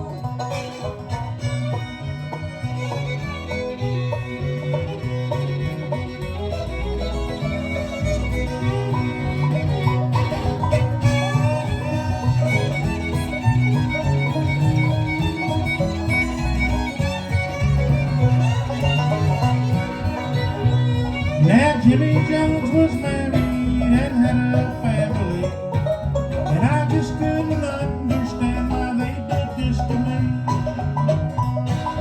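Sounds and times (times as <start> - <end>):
fiddle melody: 0.0 - 32.0
rhythm guitar: 0.0 - 32.0.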